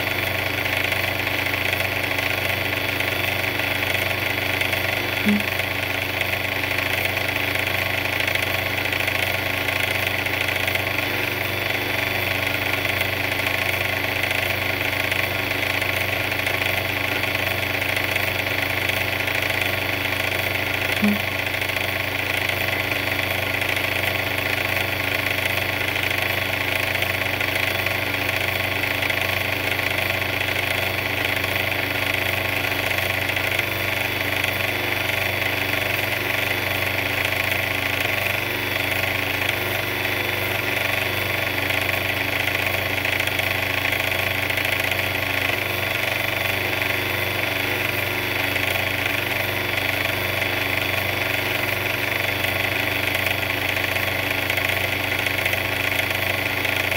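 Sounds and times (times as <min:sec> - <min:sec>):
mixer droning: 0:00.0 - 0:56.9.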